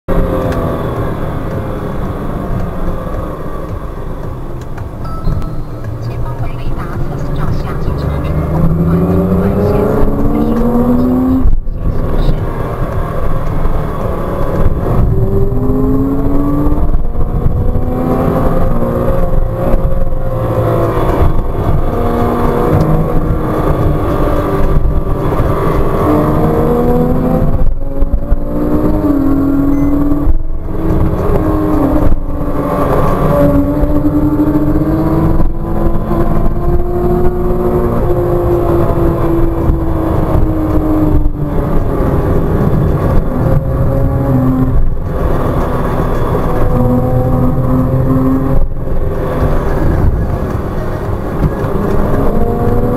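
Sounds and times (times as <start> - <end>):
car engine accelerating: 0.1 - 52.9.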